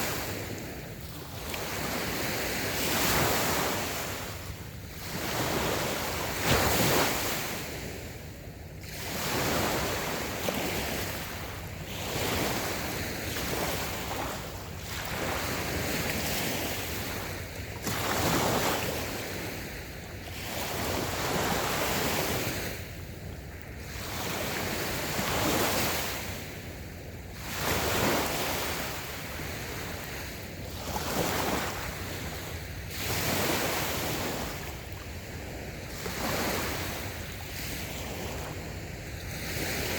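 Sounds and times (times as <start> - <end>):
small waves washing on beach: 0.0 - 39.9.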